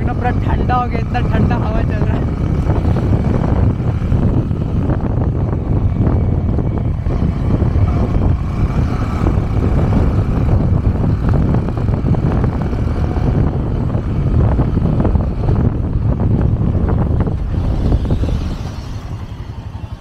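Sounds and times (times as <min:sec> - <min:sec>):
motorcycle engine rumble: 0:00.0 - 0:20.0
wind noise: 0:00.0 - 0:20.0.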